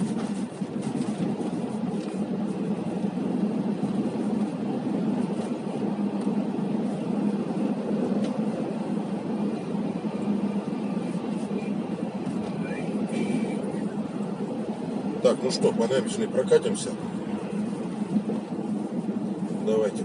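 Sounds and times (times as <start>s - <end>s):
car engine hum: 0.0s - 20.0s
road and tyre noise: 0.0s - 20.0s.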